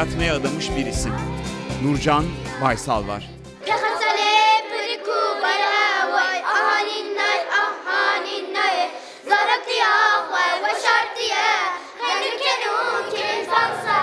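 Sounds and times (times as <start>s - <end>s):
children singing folk song: 0.0s - 14.0s.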